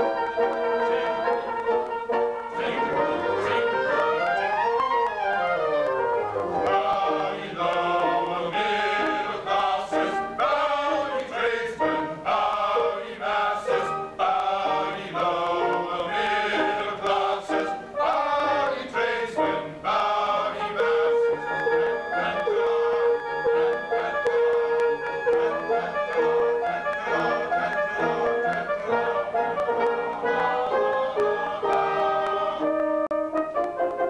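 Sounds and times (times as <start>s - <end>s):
chorus singing: 0.0s - 33.8s
instrumental accompaniment: 0.0s - 34.0s.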